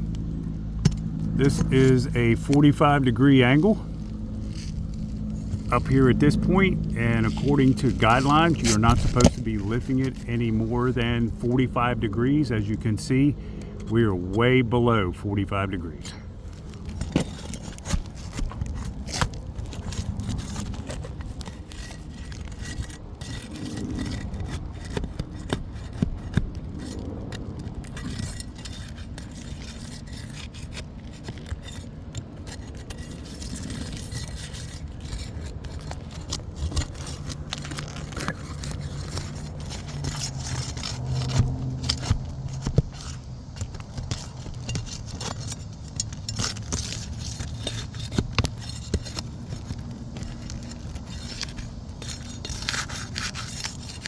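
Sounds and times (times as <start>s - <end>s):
low steady hum: 0.0s - 54.0s
tool scraping under shingles: 0.0s - 54.0s.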